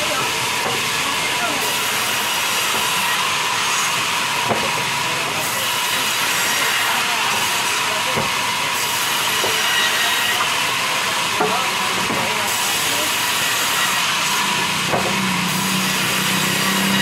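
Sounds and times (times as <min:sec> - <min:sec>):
band saw cutting log: 0:00.0 - 0:17.0.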